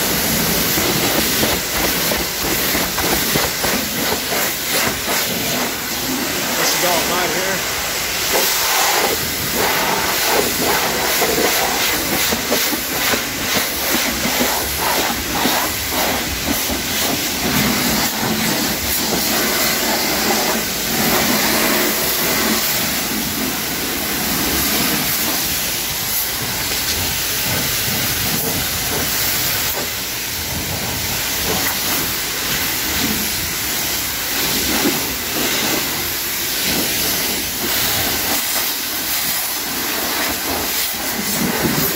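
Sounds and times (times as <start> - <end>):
water spray hissing on car: 0.0 - 41.9.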